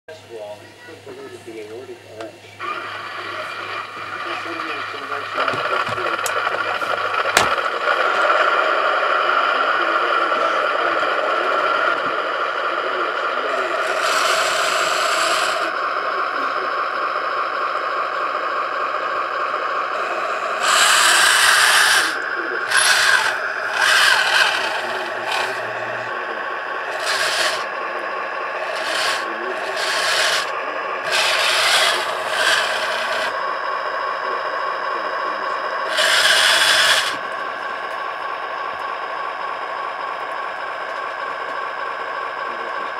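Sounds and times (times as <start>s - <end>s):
motor whir: 2.6s - 39.0s
toy tank mechanical running: 2.6s - 42.9s.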